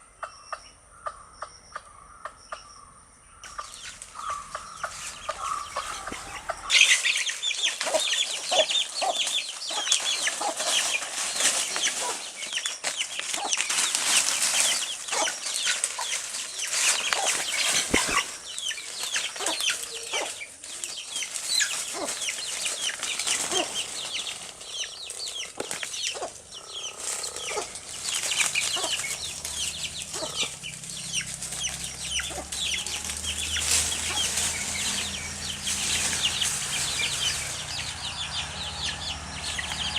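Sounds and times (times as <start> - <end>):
chicks peeping: 3.4 - 39.9
hen clucking: 3.4 - 39.9.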